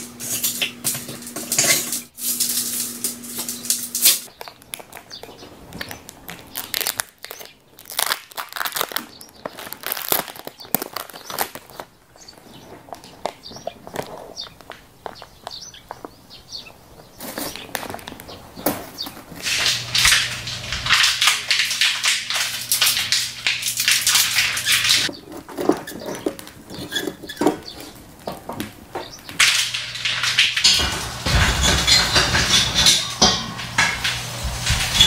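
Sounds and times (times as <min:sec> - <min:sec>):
plastic packaging and foil crinkling: 0:00.0 - 0:15.4, 0:17.2 - 0:35.0.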